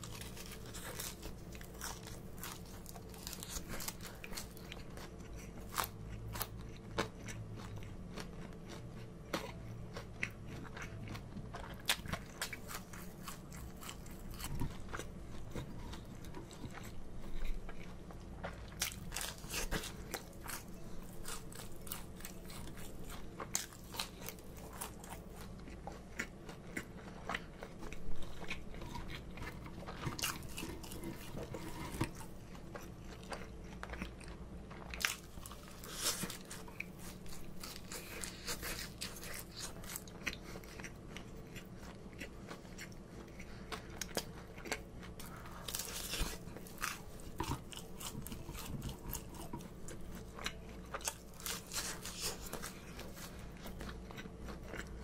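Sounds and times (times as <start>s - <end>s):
crunchy food chewing: 0.0s - 55.0s.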